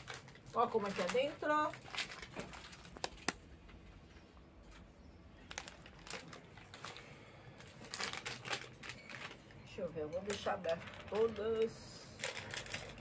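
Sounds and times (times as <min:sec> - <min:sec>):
snack bag crinkling: 0:00.0 - 0:03.5, 0:04.7 - 0:09.6, 0:10.3 - 0:13.0.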